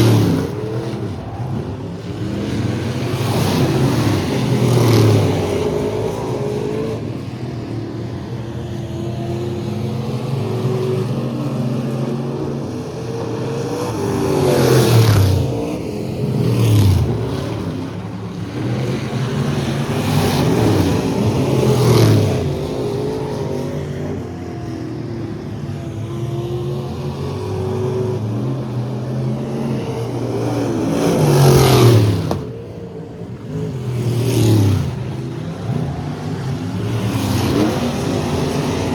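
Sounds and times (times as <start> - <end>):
race truck engines passing: 0.0 - 38.9.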